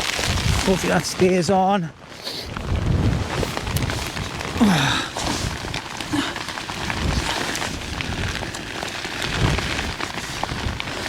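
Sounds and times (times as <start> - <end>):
heavy rain falling: 0.0 - 11.0
wind buffeting microphone: 0.0 - 11.0.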